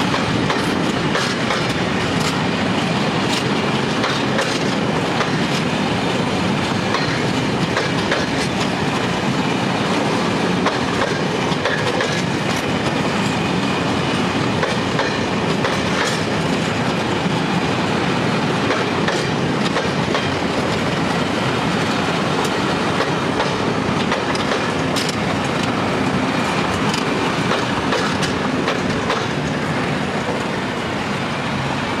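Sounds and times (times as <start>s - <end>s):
wheels clicking over rail joints: 0.0s - 9.1s, 9.9s - 13.6s, 14.2s - 17.6s, 18.4s - 30.6s
freight train rumble: 0.0s - 32.0s.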